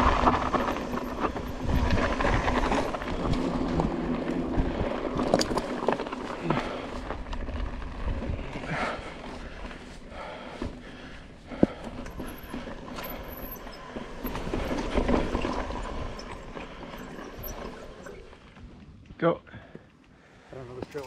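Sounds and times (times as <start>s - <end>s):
bike knocking and rattling: 0.0s - 19.0s, 20.7s - 21.0s
bike tyres rolling on rocky trail: 0.0s - 21.0s.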